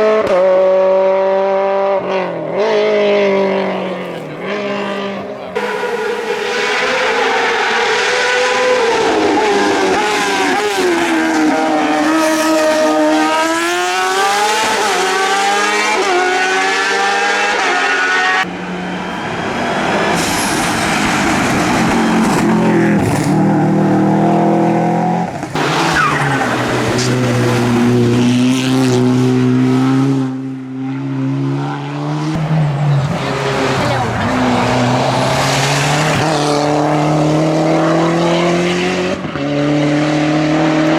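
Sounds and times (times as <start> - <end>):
race car engines revving past: 0.0 - 40.9.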